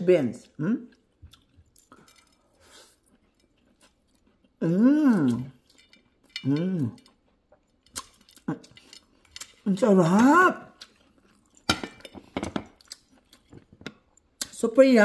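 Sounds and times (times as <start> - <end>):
woman chewing food: 0.4 - 14.5.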